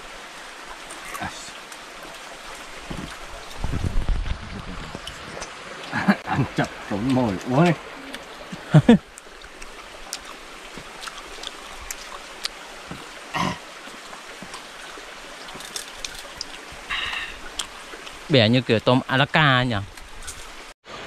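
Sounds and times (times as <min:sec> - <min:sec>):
stream running: 0:00.0 - 0:21.0.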